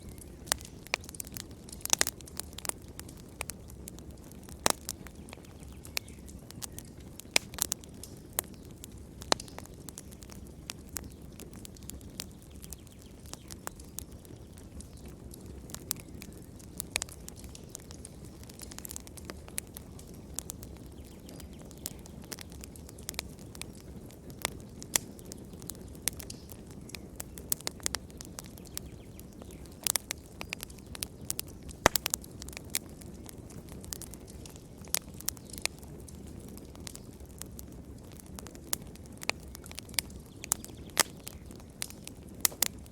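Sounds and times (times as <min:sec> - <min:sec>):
wood fire hissing and crackling: 0:00.0 - 0:42.9.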